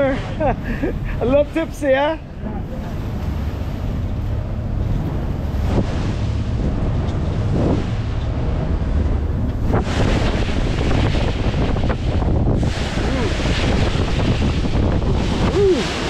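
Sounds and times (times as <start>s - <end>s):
waves against a hull: 0.0s - 16.0s
wind buffeting microphone: 0.0s - 16.0s.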